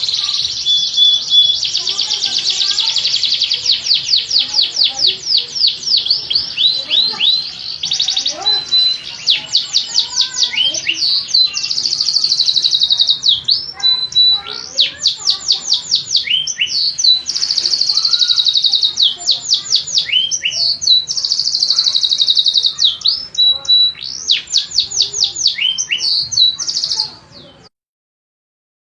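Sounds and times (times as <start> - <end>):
canary singing trills: 0.0 - 27.7.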